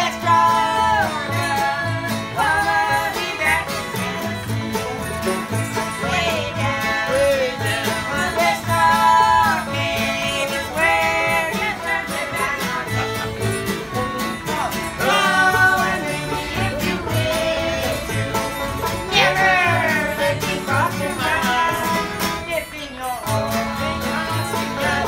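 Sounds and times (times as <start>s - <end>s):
woman singing: 0.0s - 4.6s, 5.9s - 25.0s
bluegrass band playing: 0.0s - 25.0s
upright bass plucking: 0.0s - 25.0s.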